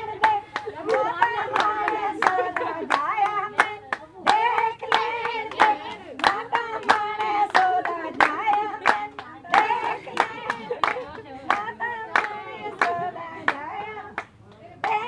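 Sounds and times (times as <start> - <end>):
hand claps: 0.0 - 15.0
women singing folk song: 0.0 - 15.0.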